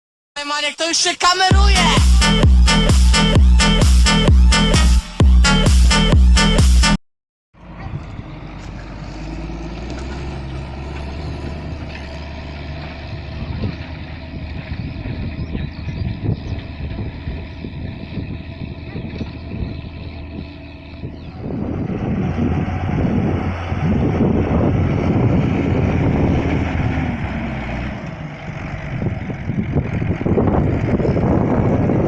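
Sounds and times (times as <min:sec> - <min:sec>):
tractor diesel engine running: 0:01.5 - 0:06.6, 0:07.6 - 0:32.0.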